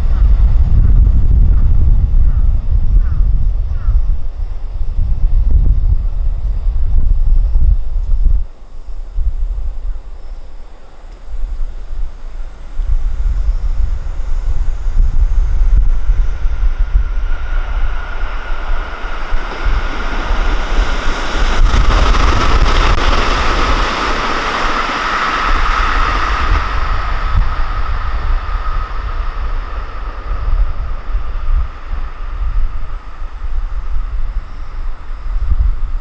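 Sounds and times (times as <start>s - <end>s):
train passing: 0.0s - 36.0s
wind rumble on microphone: 0.0s - 36.0s.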